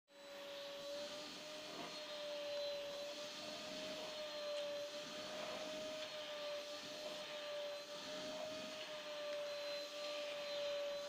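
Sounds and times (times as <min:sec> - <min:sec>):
vacuum cleaner running: 0:00.1 - 0:11.0.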